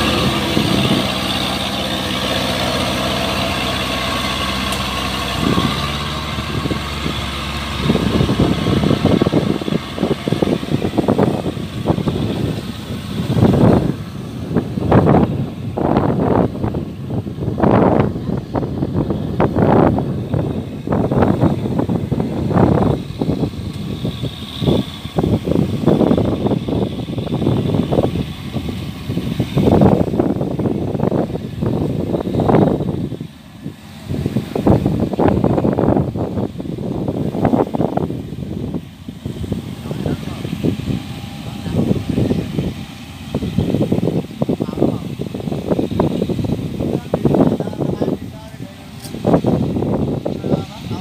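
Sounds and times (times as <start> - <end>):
distant engine running: 0.0 - 51.0
wind buffeting microphone: 0.0 - 51.0.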